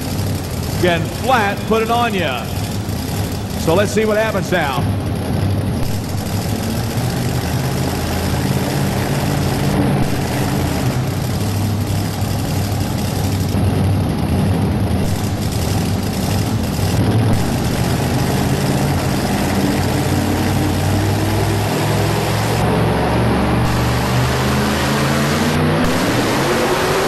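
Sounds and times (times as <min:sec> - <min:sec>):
truck engine idling loudly: 0:00.0 - 0:27.0.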